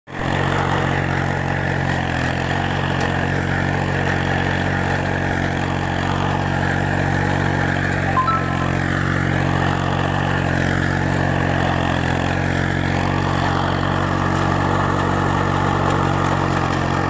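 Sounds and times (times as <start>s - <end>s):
small tractor engine running: 0.1s - 17.0s.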